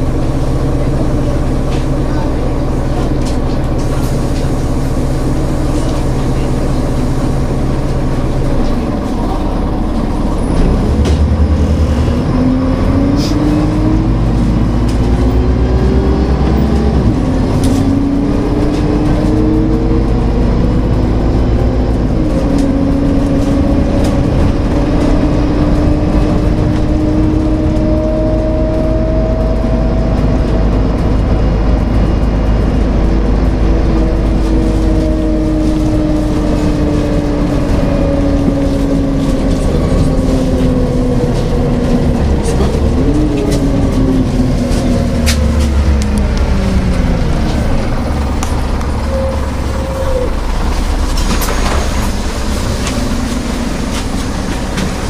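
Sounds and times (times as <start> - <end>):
bus engine: 0.0 - 55.0.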